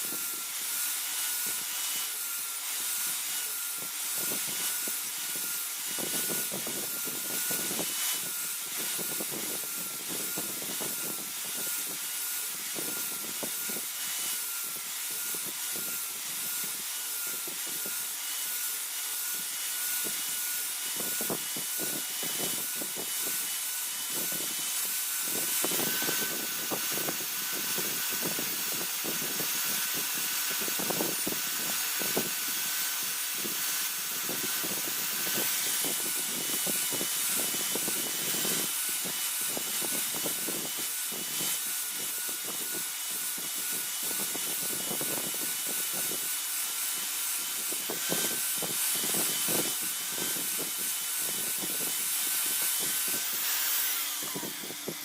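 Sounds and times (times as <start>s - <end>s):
grinder grinding metal blade: 0.0s - 55.0s.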